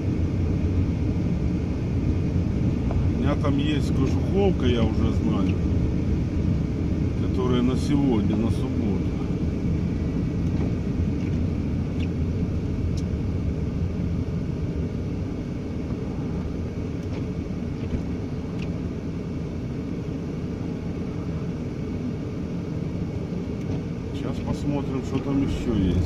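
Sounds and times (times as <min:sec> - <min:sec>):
vehicle rumble from inside cab: 0:00.0 - 0:26.0.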